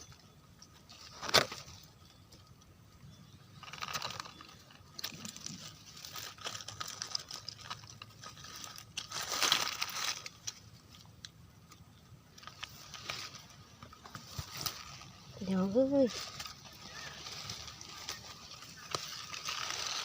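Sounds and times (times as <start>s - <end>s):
leaves and twigs crunching: 0.0s - 20.0s
twigs snapping: 0.6s - 2.6s, 3.6s - 15.2s, 16.1s - 20.0s.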